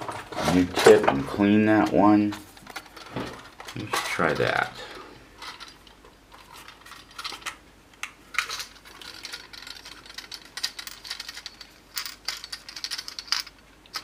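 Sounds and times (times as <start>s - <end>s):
small hard parts clicking and rattling: 1.8s - 14.0s.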